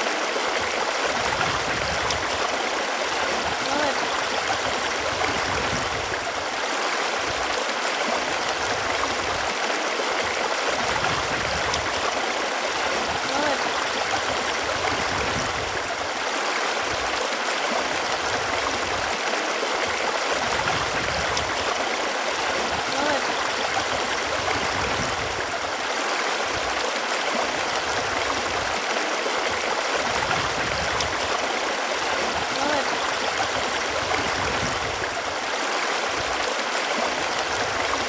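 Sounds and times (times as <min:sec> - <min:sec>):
stream rushing and gurgling: 0:00.0 - 0:38.0.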